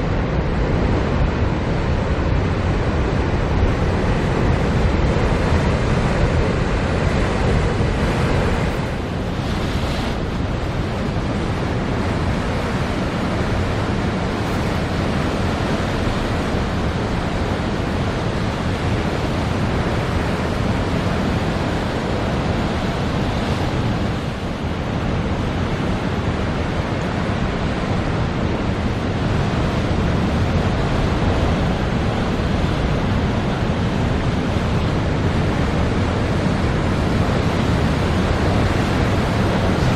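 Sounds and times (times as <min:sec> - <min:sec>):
wind rumbling on microphone: 0:00.0 - 0:39.9
sea surf breaking: 0:02.4 - 0:39.9.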